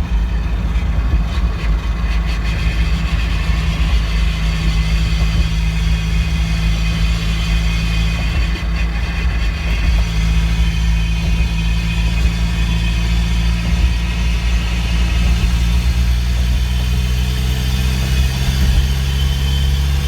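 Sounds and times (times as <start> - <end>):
low engine and drivetrain drone: 0.0 - 20.0
road noise: 0.0 - 20.0.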